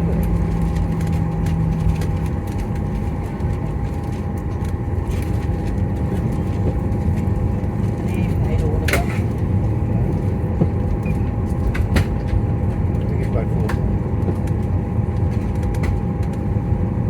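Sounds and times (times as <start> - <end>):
airplane cabin engine rumble: 0.0 - 17.0
low hum: 0.0 - 17.0.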